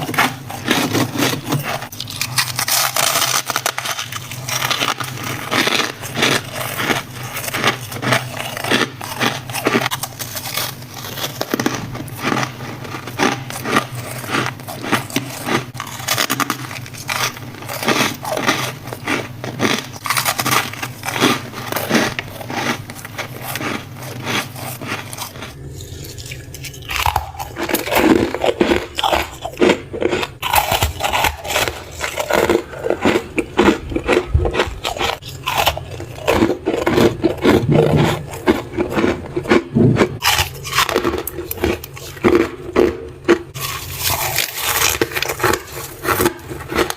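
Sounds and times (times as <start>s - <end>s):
ice being chewed: 0.0s - 46.9s.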